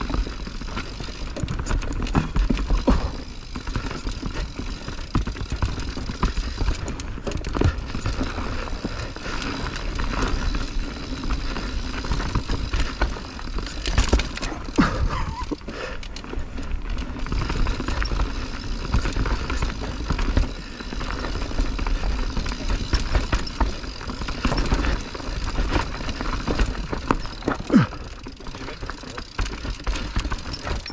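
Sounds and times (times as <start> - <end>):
bike knocking and clattering: 0.0 - 30.9
bike tyres on dirt: 0.0 - 30.9.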